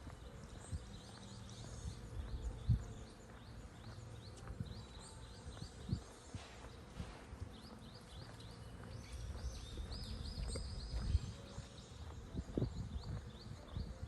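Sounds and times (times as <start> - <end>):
birds chirping: 0.0 - 14.0
footsteps on path: 0.0 - 14.0.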